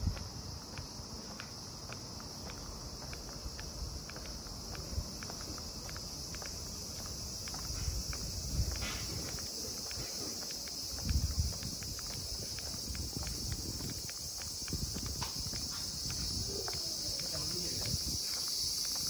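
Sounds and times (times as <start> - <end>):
cicadas shrilling: 0.0 - 19.0
footsteps: 0.0 - 19.0.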